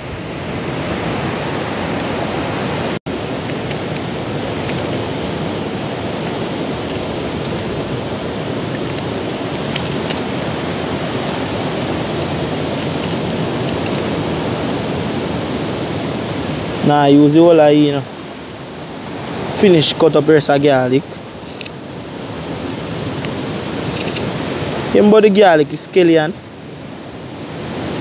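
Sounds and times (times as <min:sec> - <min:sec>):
sea surf breaking: 0:00.0 - 0:28.0.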